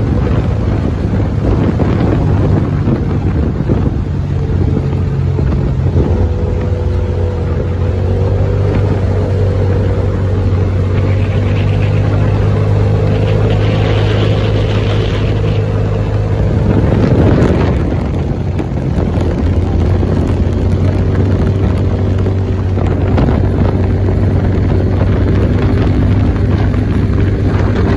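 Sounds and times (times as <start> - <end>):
off-road vehicle engine running: 0.0 - 27.9
wind noise: 0.0 - 27.9.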